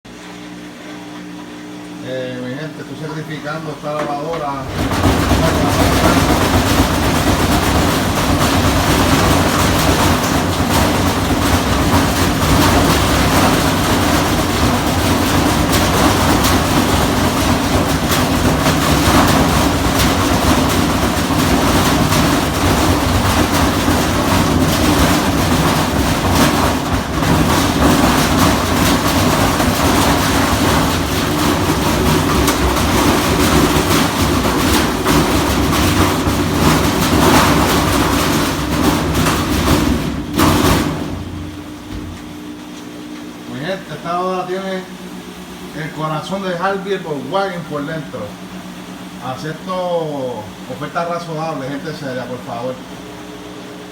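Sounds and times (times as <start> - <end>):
washing machine clattering: 2.0 - 53.9.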